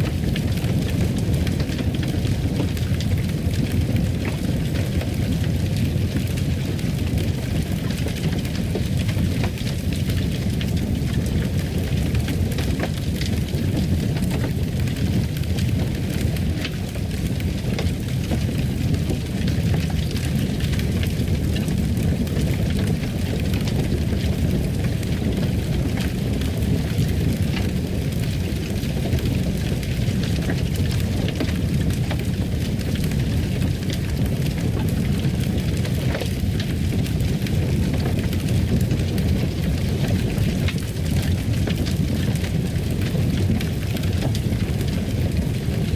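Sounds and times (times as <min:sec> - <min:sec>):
fire crackling in a fireplace: 0:00.0 - 0:45.9.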